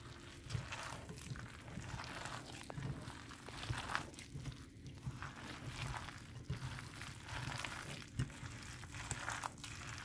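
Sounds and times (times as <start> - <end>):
hand squelching vegetables in batter: 0.0 - 10.0.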